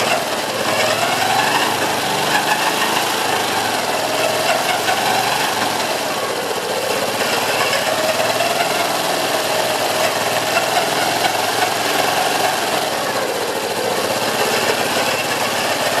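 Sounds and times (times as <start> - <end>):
fast mechanical rattle: 0.0 - 16.0
motorcycle engine running: 0.0 - 16.0.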